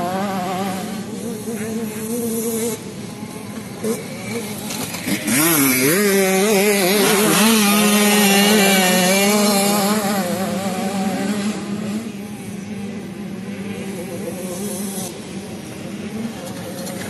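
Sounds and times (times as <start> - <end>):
distant bike engine: 0.0 - 17.0
minibike passing at high revs: 0.0 - 17.0.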